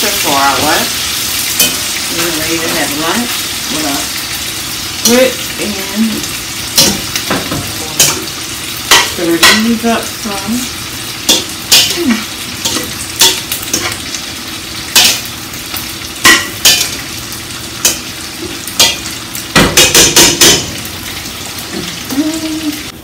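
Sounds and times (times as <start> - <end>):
sausage sizzling in a skillet: 0.0 - 23.0.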